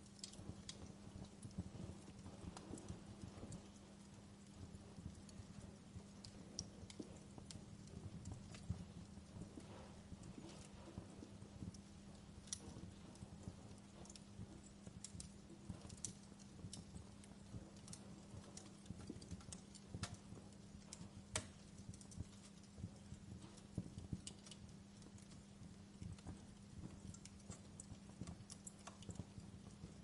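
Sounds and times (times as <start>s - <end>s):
faint low hum: 0.0s - 30.0s
fire pops and snaps: 0.0s - 30.0s
wood fire crackling: 0.0s - 30.0s.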